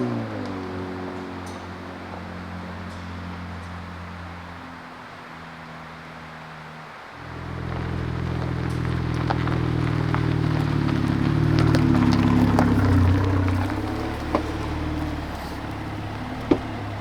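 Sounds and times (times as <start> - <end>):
gravel crackling under tyres: 0.0 - 17.0
vehicle engine running: 0.0 - 17.0.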